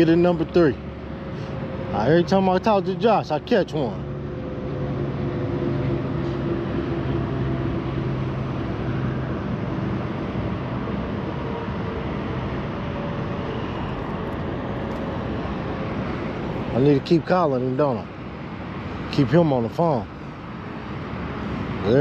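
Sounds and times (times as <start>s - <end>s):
distant engine drone: 0.0s - 22.0s.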